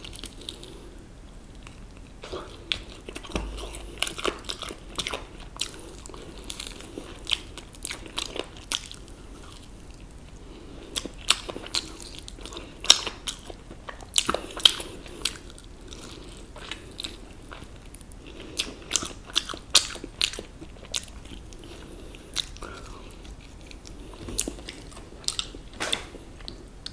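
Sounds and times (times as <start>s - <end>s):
quiet chewing: 0.0s - 26.9s.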